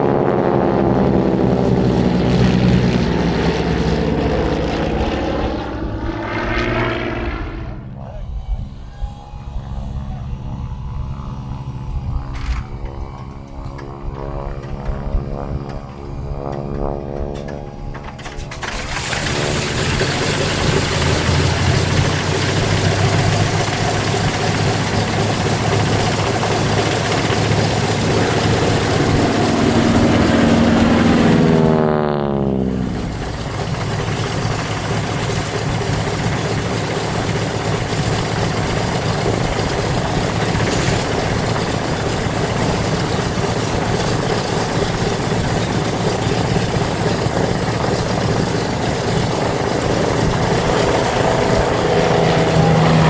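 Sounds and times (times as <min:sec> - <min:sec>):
propeller plane engines droning: 0:00.0 - 0:53.0.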